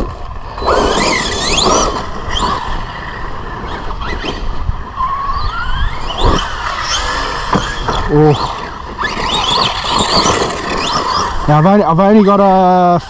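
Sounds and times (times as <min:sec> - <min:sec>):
rc truck electric motor whining: 0:00.0 - 0:13.0.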